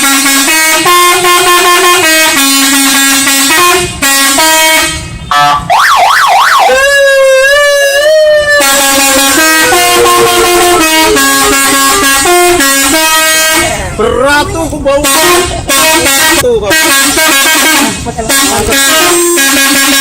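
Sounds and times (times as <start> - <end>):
multi-tone bus air horn melody: 0.0 - 20.0.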